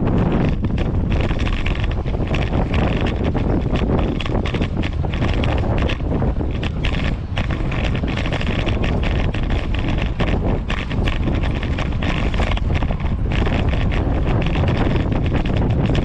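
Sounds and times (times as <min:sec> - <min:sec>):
bicycle rattling over paving: 0:00.0 - 0:16.0
wind buffeting microphone: 0:00.0 - 0:16.0.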